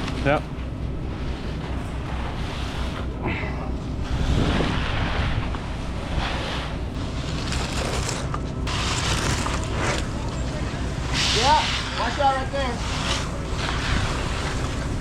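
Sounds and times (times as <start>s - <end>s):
diesel engine rumble: 0.0s - 15.0s
rushing scraping noise: 1.0s - 3.2s, 3.8s - 15.0s.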